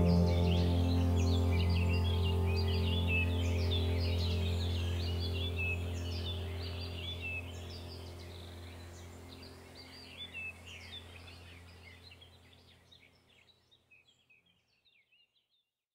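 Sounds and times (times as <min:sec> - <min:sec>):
steady low hum: 0:00.0 - 0:12.8
small birds chirping: 0:00.0 - 0:15.7.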